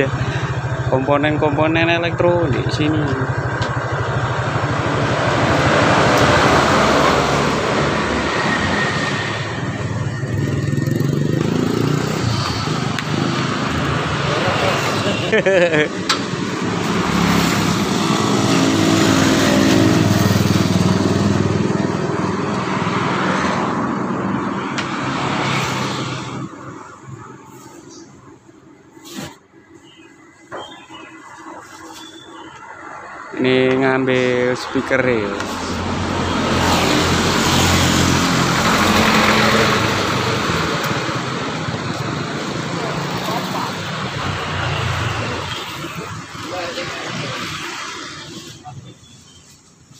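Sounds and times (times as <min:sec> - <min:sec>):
truck passing by: 0:00.0 - 0:29.2, 0:31.5 - 0:48.9.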